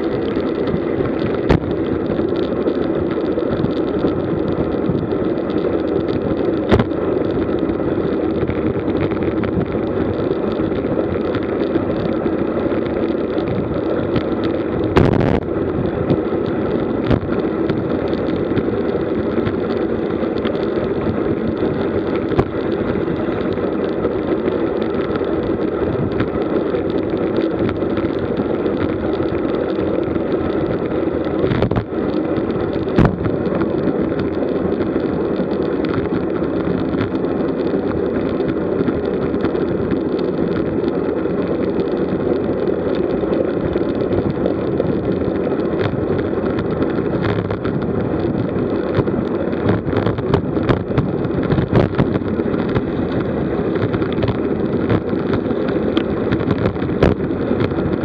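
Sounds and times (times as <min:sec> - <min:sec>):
bike tyres rolling on asphalt: 0:00.0 - 0:58.0
wind on microphone: 0:00.0 - 0:58.0.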